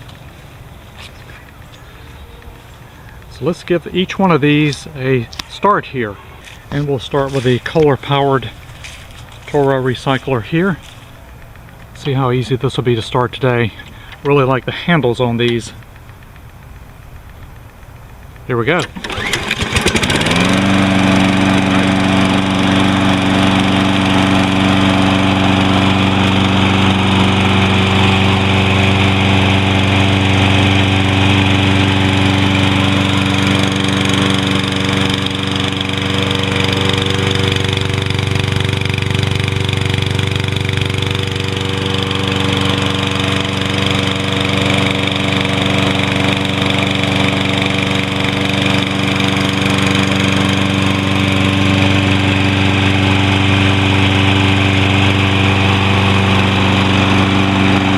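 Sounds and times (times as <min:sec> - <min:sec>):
lawn mower engine starting and running: 0:00.0 - 0:57.9.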